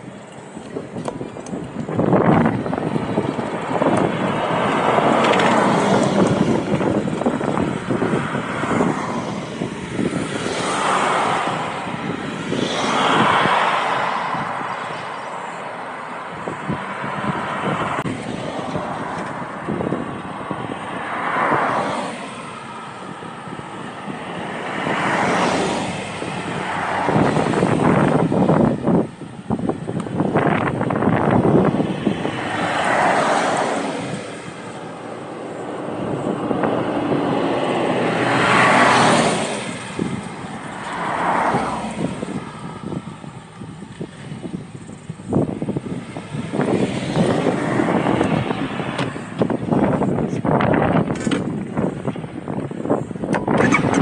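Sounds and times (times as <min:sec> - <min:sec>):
motorcycle riding: 0:00.0 - 0:54.0
wind on microphone: 0:00.0 - 0:54.0.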